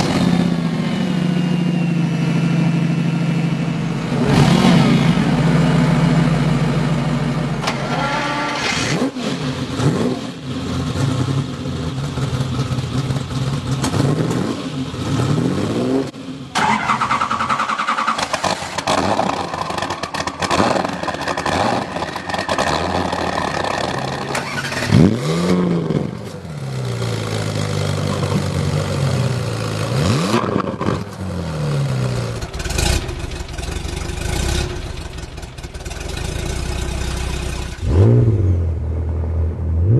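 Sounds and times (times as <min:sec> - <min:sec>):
car engines revving and accelerating: 0:00.0 - 0:35.2, 0:35.9 - 0:39.9.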